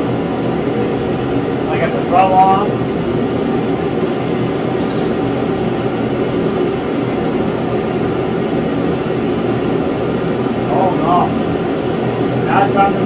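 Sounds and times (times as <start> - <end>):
propane heater running: 0.0 - 13.0.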